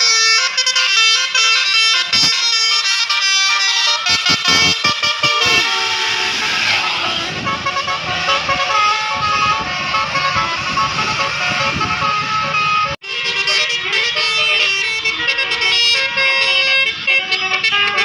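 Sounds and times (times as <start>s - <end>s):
bus air horn melody: 0.0s - 18.0s.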